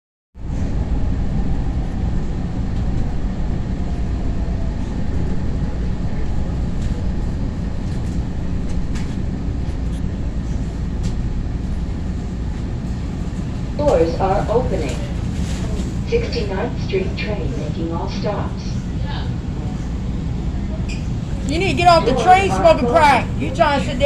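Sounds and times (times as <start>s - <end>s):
train car rumbling: 0.4s - 24.0s.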